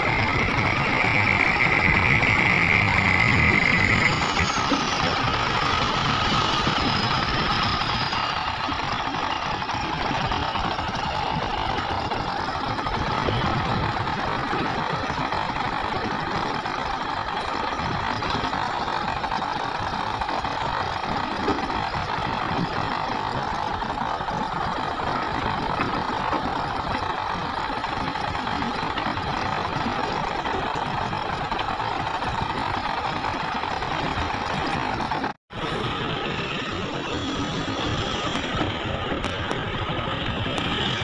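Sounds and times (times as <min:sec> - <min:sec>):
excavator diesel engines droning: 0:00.0 - 0:41.0.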